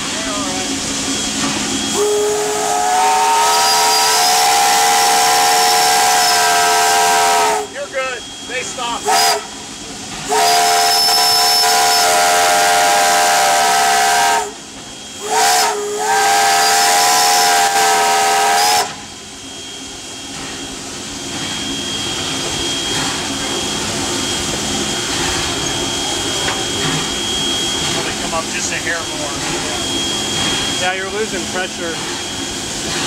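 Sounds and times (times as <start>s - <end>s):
steam locomotive chime whistle: 0.0s - 9.6s, 10.2s - 32.7s
locomotive steady hiss: 0.0s - 33.0s.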